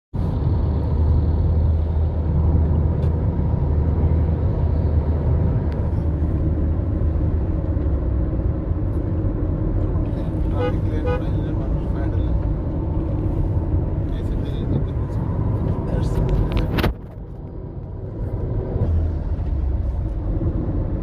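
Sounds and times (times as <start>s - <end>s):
car engine and road rumble: 0.1s - 21.0s.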